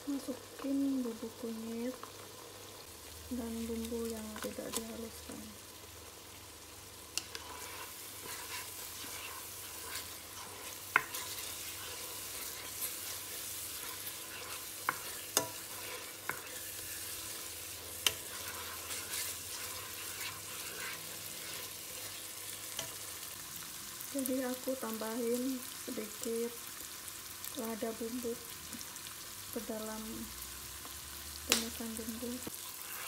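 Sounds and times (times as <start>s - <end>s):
spice paste sizzling in oil: 0.0s - 33.0s.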